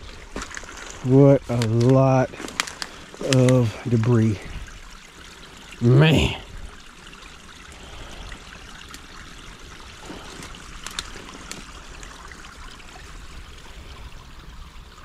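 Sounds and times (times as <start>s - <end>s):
water trickling through dam: 0.0s - 15.0s.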